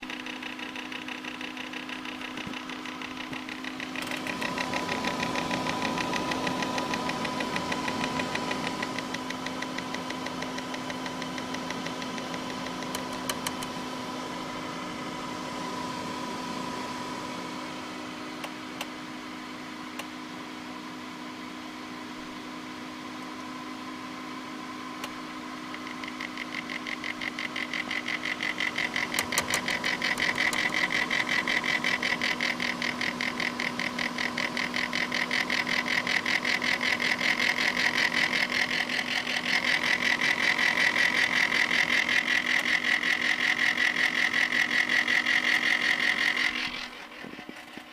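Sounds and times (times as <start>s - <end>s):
cooler pump grinding: 0.0s - 17.7s, 25.7s - 47.9s
steady hum: 0.0s - 20.7s, 24.9s - 47.9s.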